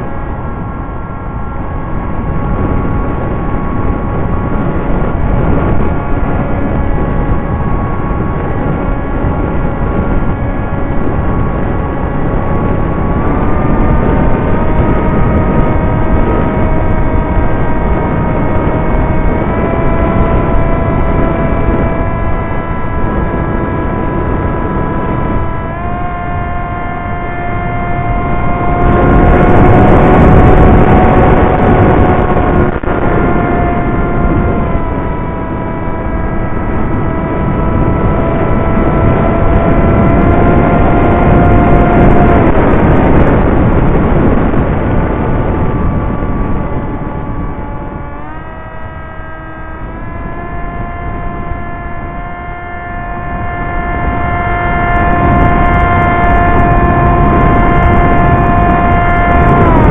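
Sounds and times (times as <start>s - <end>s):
electric motor and propeller whining: 0.0s - 59.9s
wind rushing: 0.0s - 59.9s.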